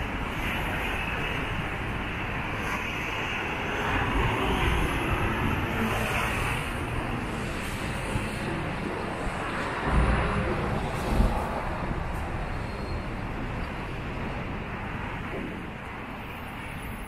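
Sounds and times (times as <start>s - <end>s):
cars and trucks passing: 0.0s - 17.0s.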